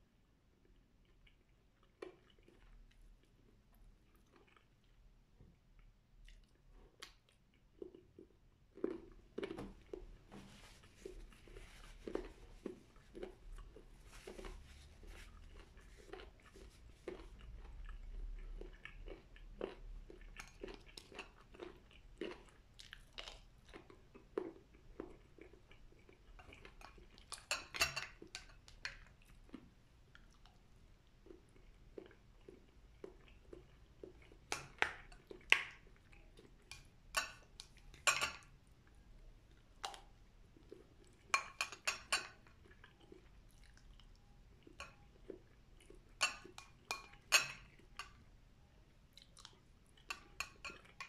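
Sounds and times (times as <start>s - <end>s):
chewing with wet mouth clicks: 0.5s - 5.1s, 5.7s - 10.2s, 11.1s - 48.4s, 49.0s - 51.0s.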